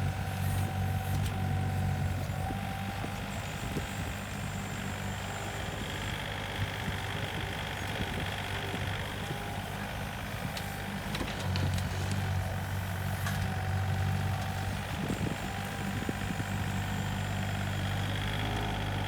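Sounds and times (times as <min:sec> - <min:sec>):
excavator diesel engine digging: 0:00.1 - 0:19.0.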